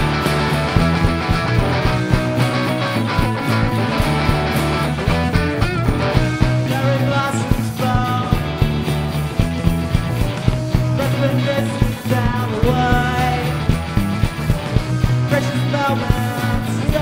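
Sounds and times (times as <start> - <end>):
bass line: 0.0 - 17.0
drum beat: 0.0 - 17.0
electric guitar: 0.0 - 17.0.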